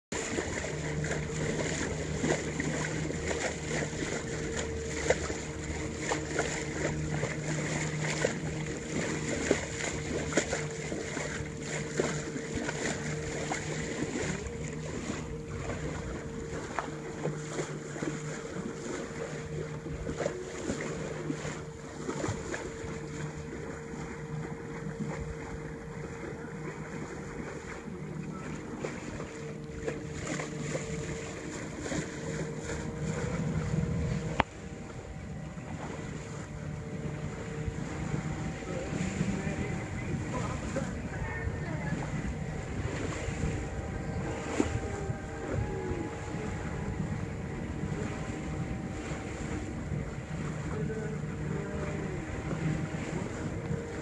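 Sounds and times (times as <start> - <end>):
boat engine hum: 0.0 - 54.0
water splashing along hull: 0.0 - 54.0.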